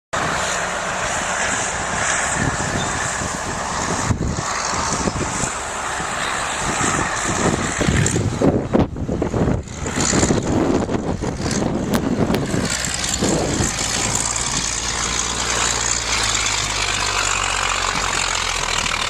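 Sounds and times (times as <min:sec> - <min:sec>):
bulldozer engine running: 0:00.1 - 0:19.0.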